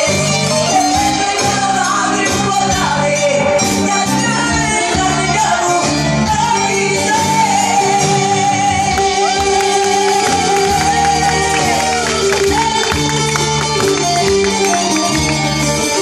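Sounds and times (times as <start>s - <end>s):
band playing: 0.0s - 16.0s
woman singing into microphone: 0.0s - 16.0s.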